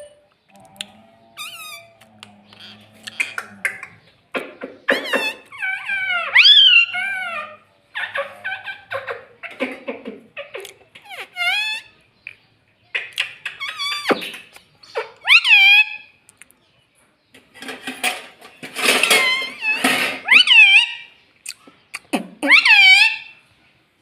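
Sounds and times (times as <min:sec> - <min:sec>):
parrot squawking and chattering: 0:00.0 - 0:12.1, 0:12.9 - 0:16.2, 0:18.8 - 0:23.4.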